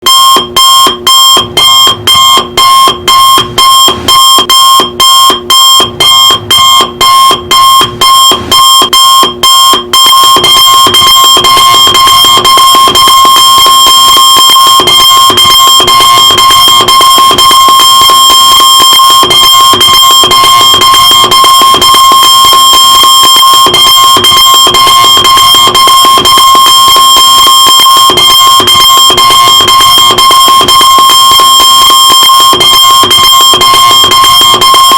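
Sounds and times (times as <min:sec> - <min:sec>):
alarm clock beeping: 0:00.0 - 0:34.9.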